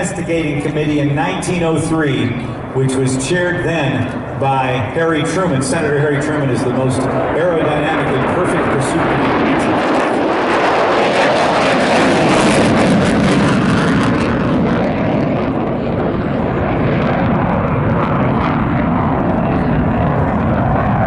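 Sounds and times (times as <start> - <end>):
plane flying past: 0.0 - 21.0.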